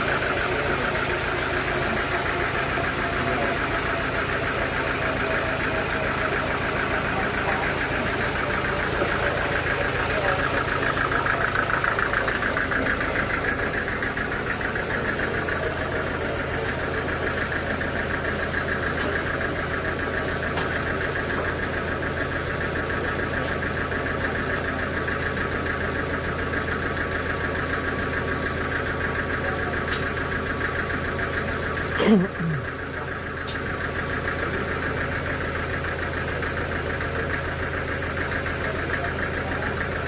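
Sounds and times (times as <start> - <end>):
sawmill machinery running: 0.0 - 40.0.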